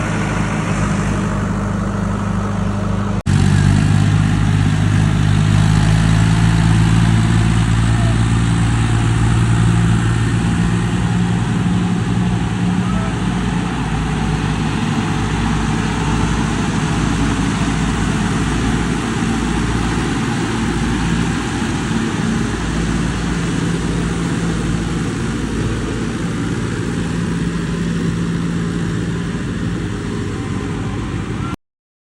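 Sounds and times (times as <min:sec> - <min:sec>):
heavy machinery running: 0:00.0 - 0:31.6.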